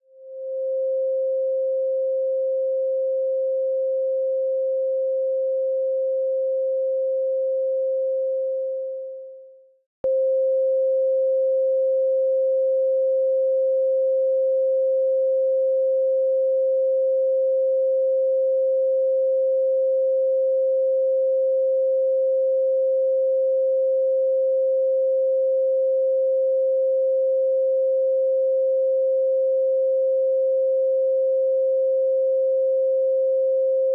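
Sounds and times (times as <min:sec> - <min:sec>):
pure sine tone: 0:00.0 - 0:33.9.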